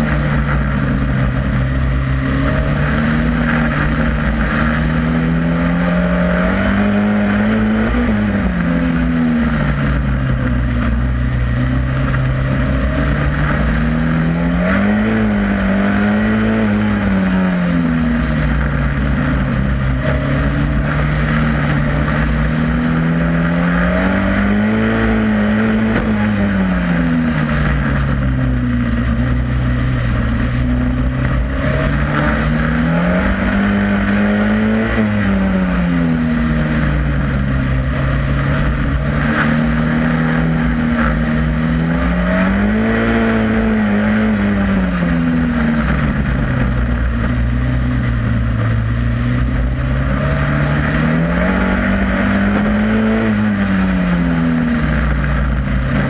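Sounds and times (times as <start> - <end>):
race car engine revving: 0.0 - 56.0
steady rushing noise: 0.0 - 56.0.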